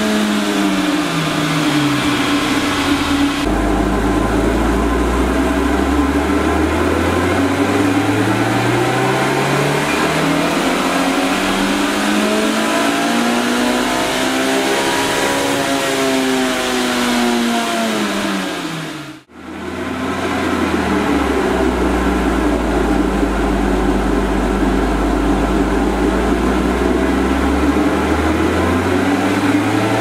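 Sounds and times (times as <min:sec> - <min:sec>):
engine revving at full throttle: 0:00.0 - 0:30.0.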